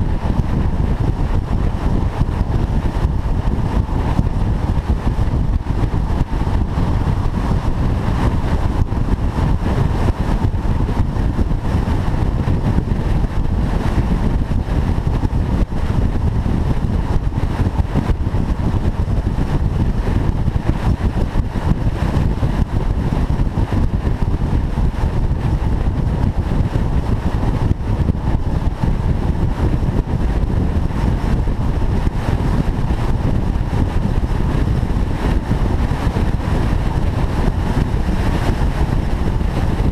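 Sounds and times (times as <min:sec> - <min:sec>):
car driving steadily: 0:00.0 - 0:39.9.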